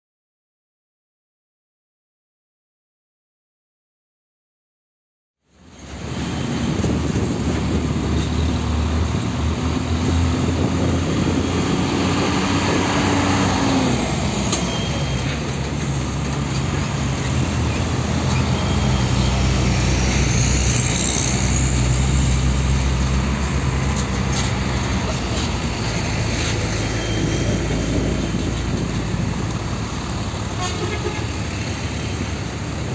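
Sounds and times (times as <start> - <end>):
dump truck diesel engines droning: 5.5 - 32.9.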